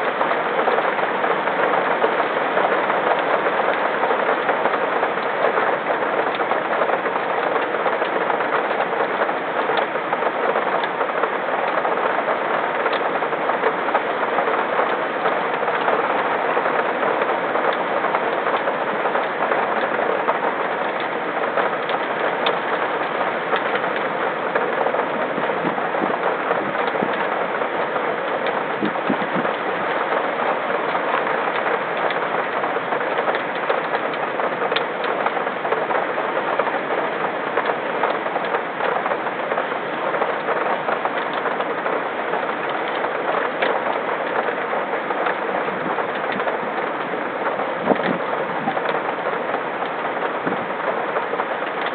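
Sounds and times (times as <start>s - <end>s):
rain drop ticks: 0.0s - 51.9s
steady rain hiss: 0.0s - 51.9s.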